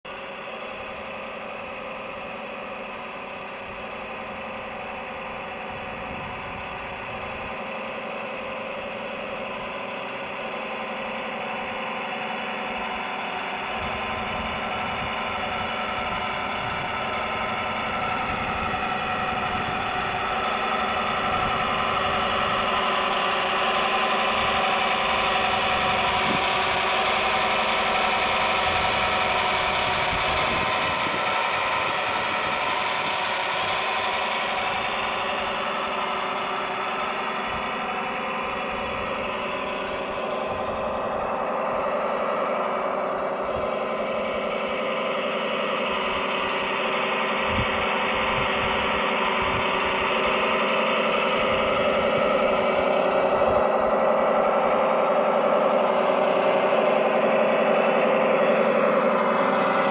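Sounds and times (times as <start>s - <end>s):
model motor whine: 0.1s - 59.9s.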